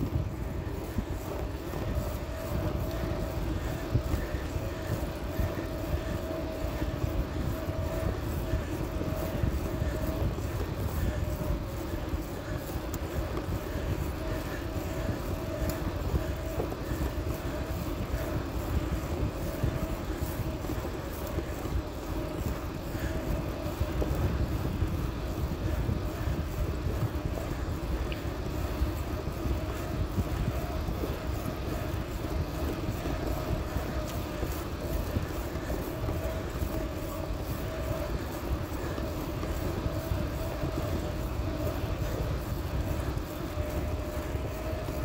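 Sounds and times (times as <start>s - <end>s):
faint hum: 0.0s - 45.0s.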